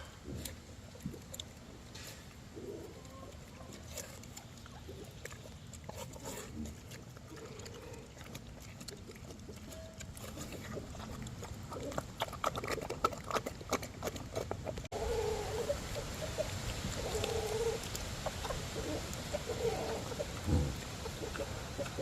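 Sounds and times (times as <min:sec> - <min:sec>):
pig chewing watermelon: 0:00.0 - 0:22.0
pig grunting: 0:02.0 - 0:22.0.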